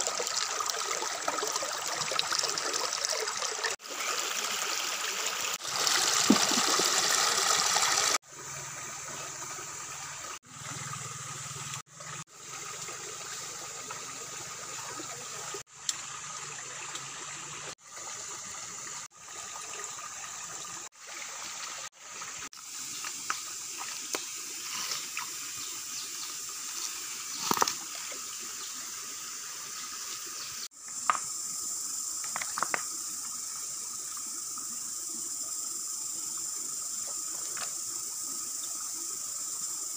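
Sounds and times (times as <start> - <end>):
stream water over rocks: 0.0 - 31.3, 32.1 - 35.3.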